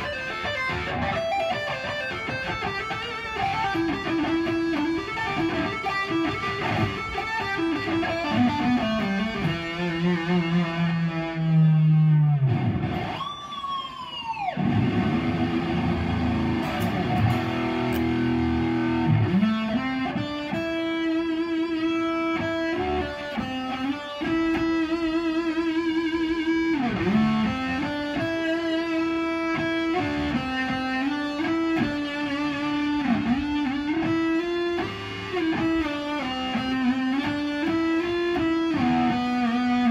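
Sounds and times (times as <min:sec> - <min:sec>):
electric guitar lead playing: 0:00.0 - 0:39.9.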